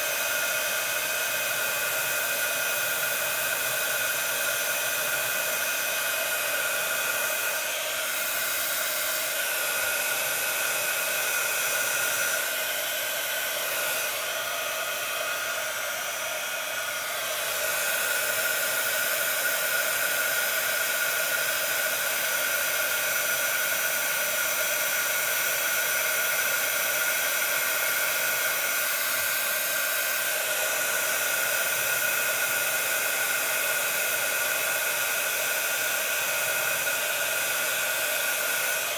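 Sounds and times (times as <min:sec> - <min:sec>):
heat gun blowing with high whine: 0:00.0 - 0:38.9.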